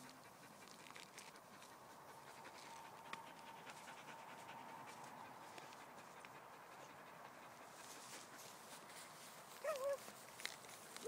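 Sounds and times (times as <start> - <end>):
dog panting: 0.0 - 10.0.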